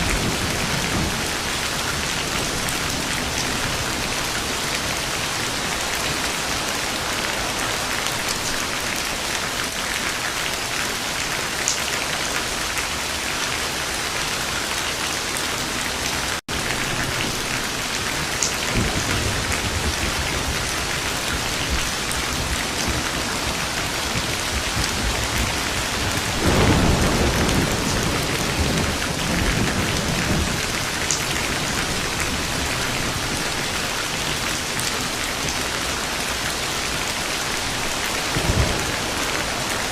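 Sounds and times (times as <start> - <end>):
thunder rumbling: 0.0 - 9.1, 15.9 - 39.9
heavy rain falling: 0.0 - 39.9.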